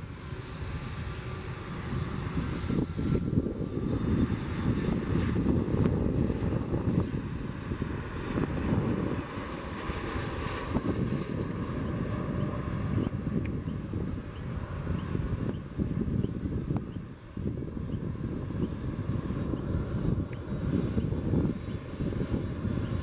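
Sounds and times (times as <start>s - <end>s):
jet engines low rumble: 0.0s - 23.0s.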